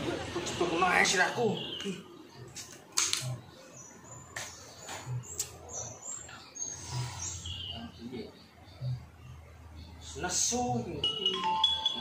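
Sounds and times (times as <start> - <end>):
birds chirping: 0.4 - 12.0.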